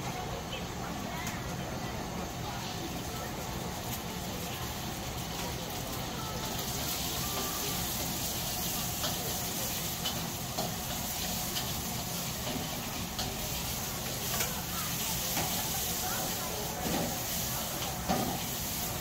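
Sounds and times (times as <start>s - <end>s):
gas burner rumble: 0.0s - 19.0s
egg sizzling in hot oil: 3.4s - 19.0s.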